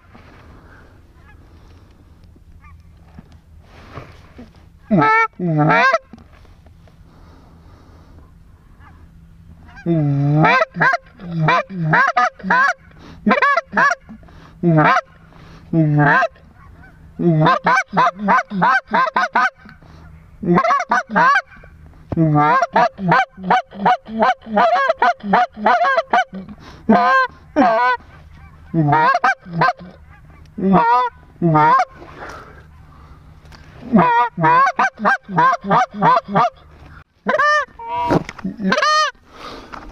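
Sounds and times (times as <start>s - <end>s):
goose call honks and clucks: 1.1s - 1.5s, 2.6s - 2.9s, 4.4s - 6.3s, 8.2s - 39.2s.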